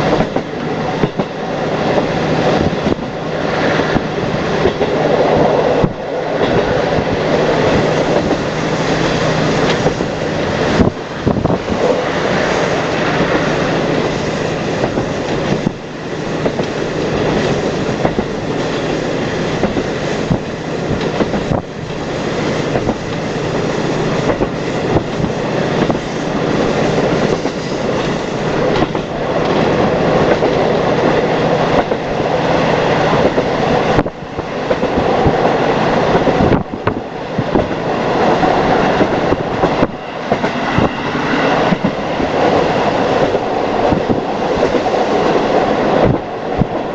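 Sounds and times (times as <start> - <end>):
train running drone: 0.0 - 46.9
wheels clacking over rail joints: 0.0 - 46.9.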